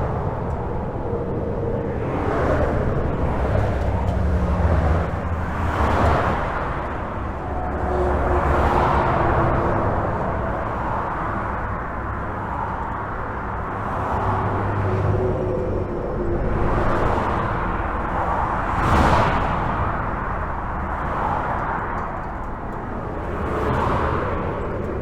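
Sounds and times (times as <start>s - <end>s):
highway traffic rushing: 0.0s - 25.0s.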